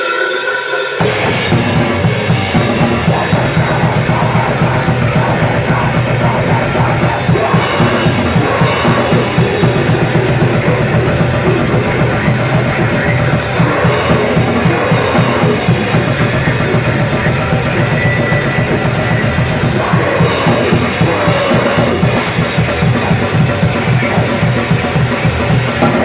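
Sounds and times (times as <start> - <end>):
fast driving drum beat: 0.0 - 26.0
loud rock music: 0.0 - 26.0.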